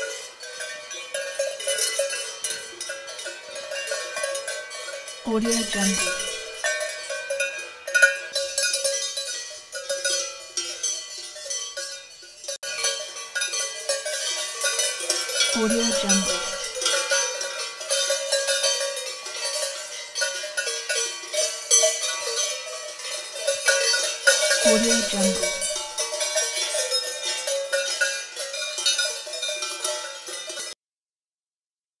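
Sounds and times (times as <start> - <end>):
cowbells clanking: 0.0 - 30.8.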